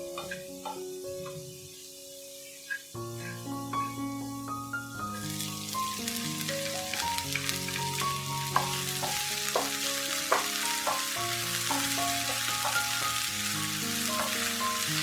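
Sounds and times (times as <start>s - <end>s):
tofu sizzling in hot oil: 1.0s - 3.0s, 5.0s - 15.0s
background music: 2.2s - 15.0s.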